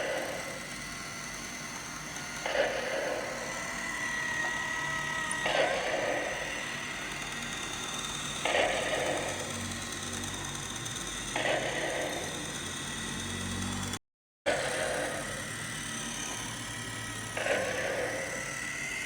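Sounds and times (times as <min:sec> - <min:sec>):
machine running with thin whine: 0:00.0 - 0:19.0.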